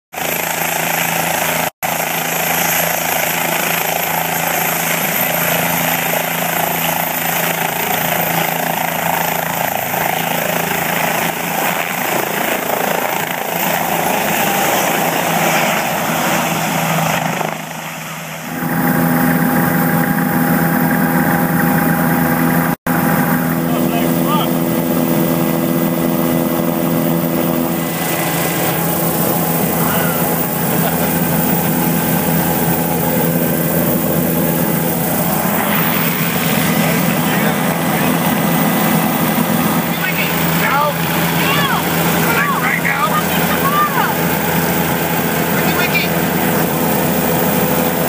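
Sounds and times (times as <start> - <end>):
helicopter engine and rotors: 0.1 - 48.0.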